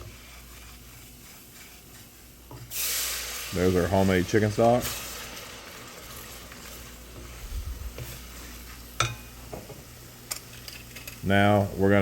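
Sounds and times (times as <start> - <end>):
roux sizzling in a pan: 0.0 - 12.0.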